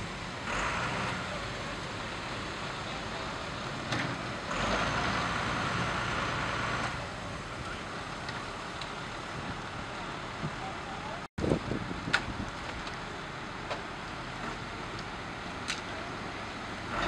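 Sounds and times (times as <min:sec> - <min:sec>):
fire engine engines running: 0:00.0 - 0:17.0.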